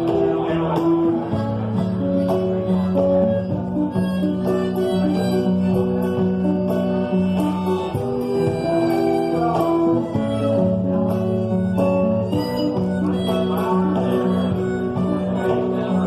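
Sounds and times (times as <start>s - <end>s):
bass line: 0.0s - 16.0s
guitar: 0.0s - 16.0s
live band playing: 0.0s - 16.0s.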